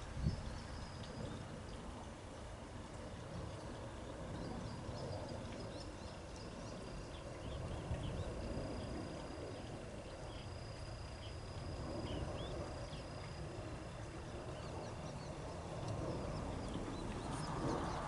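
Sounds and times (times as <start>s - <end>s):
low rumble of wind or water: 0.0s - 18.0s.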